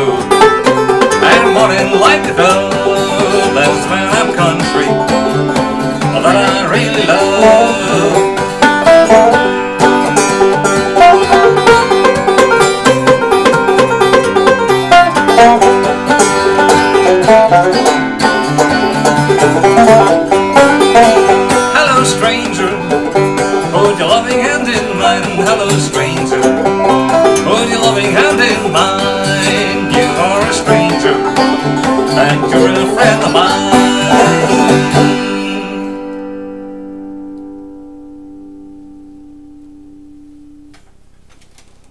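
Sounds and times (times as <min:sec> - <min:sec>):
banjo and acoustic guitar playing: 0:00.0 - 0:38.1.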